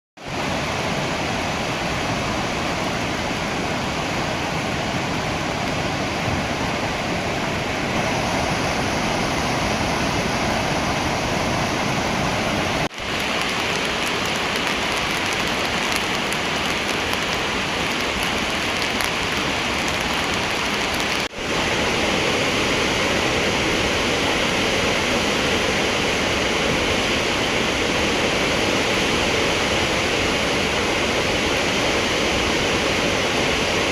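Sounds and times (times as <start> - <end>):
flood water rushing: 0.2 - 33.9.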